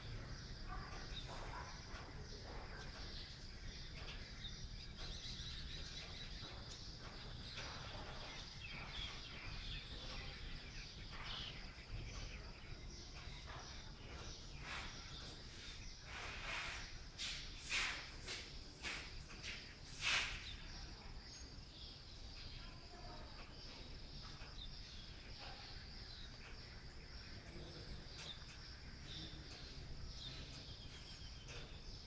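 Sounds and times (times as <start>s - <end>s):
bird chirps: 0.0s - 32.0s
high insect drone: 0.0s - 32.0s.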